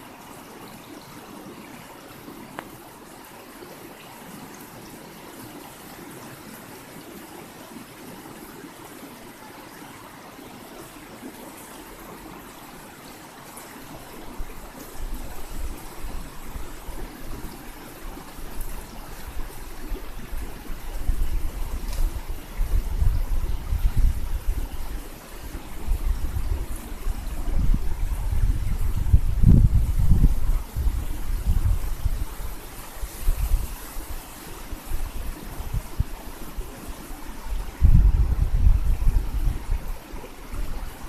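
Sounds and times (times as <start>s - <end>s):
river water flowing: 0.0s - 41.0s.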